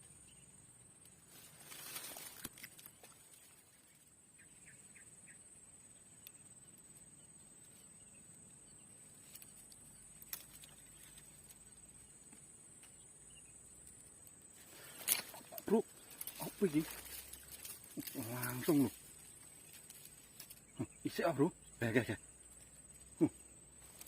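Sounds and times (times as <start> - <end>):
faint chirps: 0.0 - 24.0.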